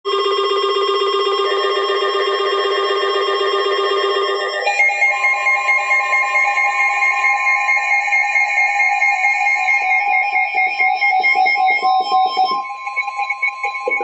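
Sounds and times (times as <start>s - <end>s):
steady high alarm tone: 0.1s - 14.0s.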